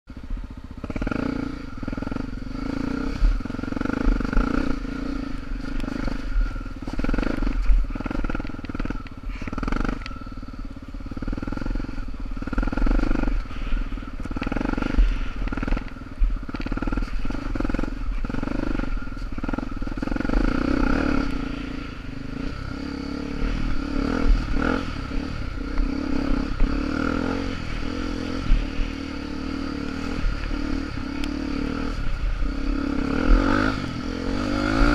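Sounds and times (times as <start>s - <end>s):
dirt bike engine revving: 0.3s - 34.9s.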